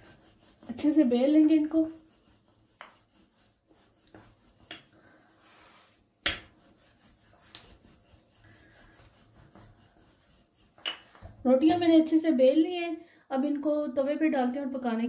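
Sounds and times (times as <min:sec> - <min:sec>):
rolling pin rubbing on dough: 0:00.0 - 0:12.1.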